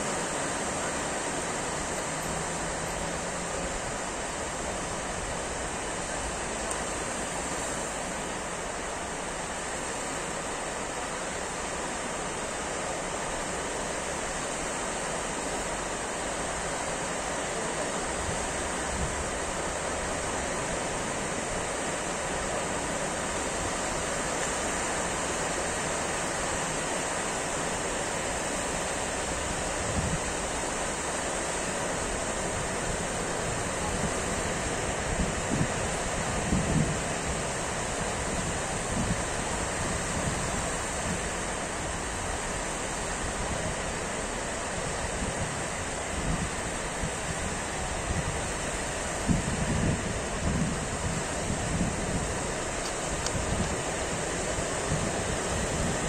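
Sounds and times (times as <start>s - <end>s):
waves washing onto stony shore: 0.0s - 56.0s.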